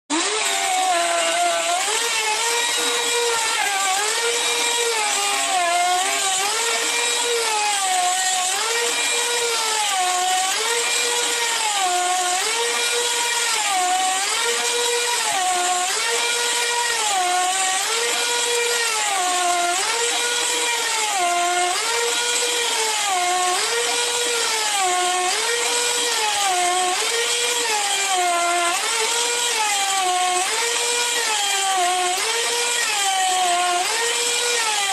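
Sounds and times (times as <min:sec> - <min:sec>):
power tool whining: 0:00.1 - 0:34.9.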